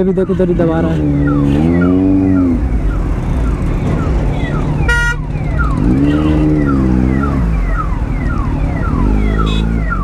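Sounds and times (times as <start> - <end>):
ambulance siren wailing: 0.0 - 10.0
heavy traffic rumble: 0.0 - 10.0
motorcycle engine revving: 0.6 - 10.0.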